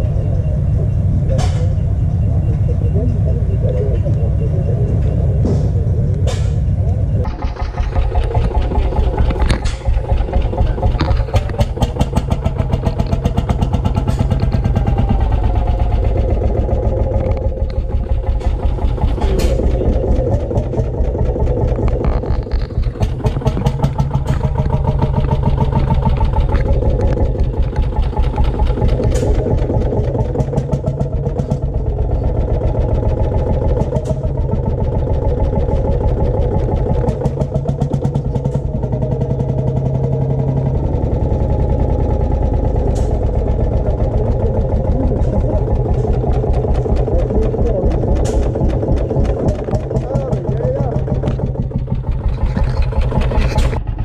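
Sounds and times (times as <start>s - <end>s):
low engine drone: 0.0s - 54.0s
old tractor engine chugging: 0.0s - 54.0s.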